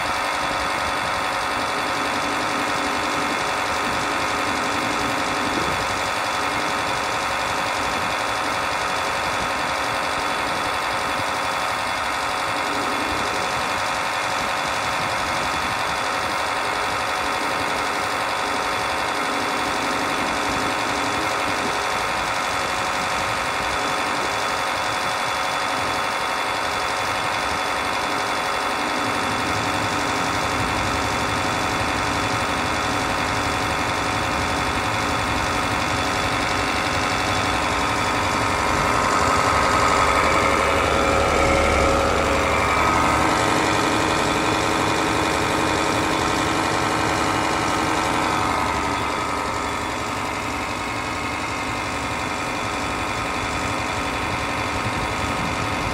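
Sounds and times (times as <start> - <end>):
heat pump humming: 0.0 - 55.9.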